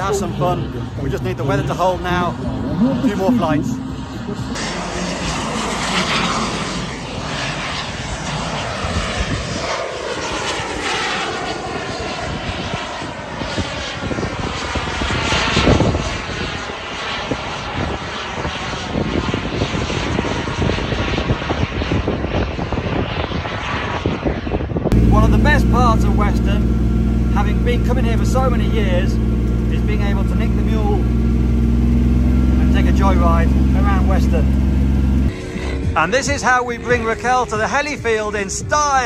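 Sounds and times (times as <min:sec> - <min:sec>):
model aircraft engine passing: 0:00.0 - 0:39.0.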